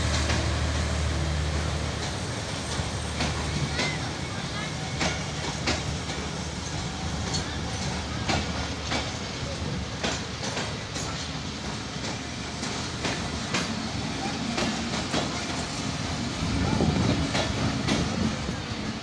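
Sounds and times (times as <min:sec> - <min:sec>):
train wheels rumbling on rail: 0:00.0 - 0:19.0
wheels clicking over rail joints: 0:01.8 - 0:15.7, 0:16.8 - 0:18.7.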